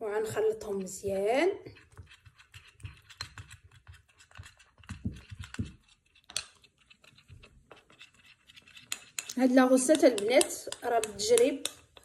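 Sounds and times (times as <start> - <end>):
spoon scraping a bowl: 0.2 - 12.0.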